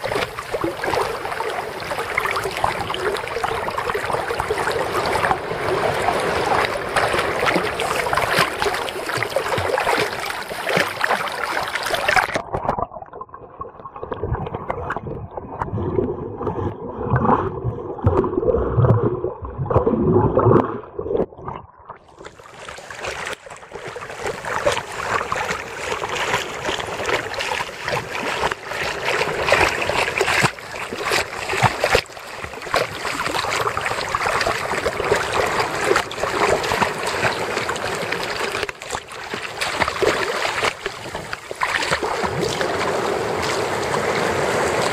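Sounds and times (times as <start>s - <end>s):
underwater gurgling: 0.0s - 44.9s
water sloshing and splashing: 0.0s - 44.9s.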